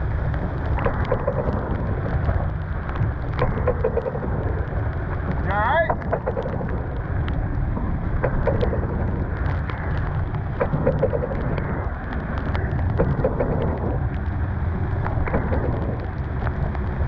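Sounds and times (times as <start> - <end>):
rain: 0.0 - 17.0
raindrops clicking on canvas: 0.0 - 17.0
wind buffeting microphone: 0.0 - 17.0.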